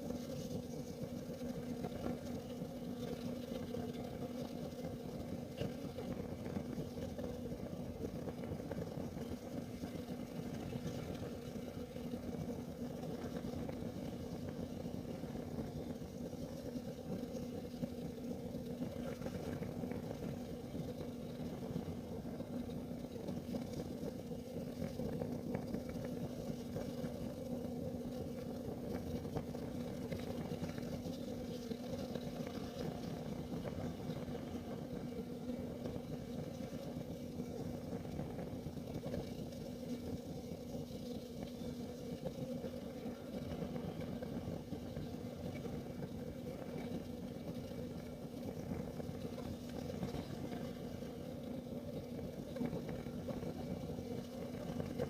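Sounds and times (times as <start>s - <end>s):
constant low hum: 0.0s - 55.0s
heater flame rushing: 0.0s - 55.0s.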